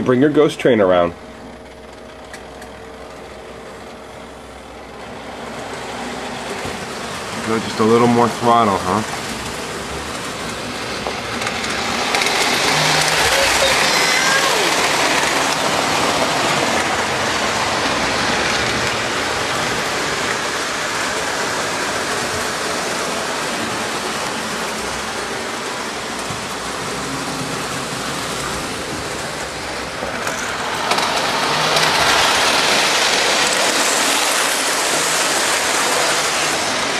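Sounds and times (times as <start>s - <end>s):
model train rolling on track: 0.0s - 36.9s.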